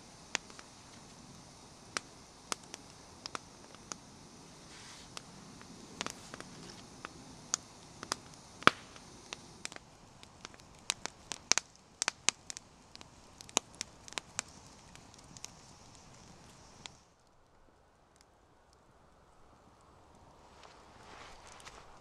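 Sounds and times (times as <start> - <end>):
campfire crackling: 0.0 - 22.0
faint steady hiss: 0.0 - 22.0.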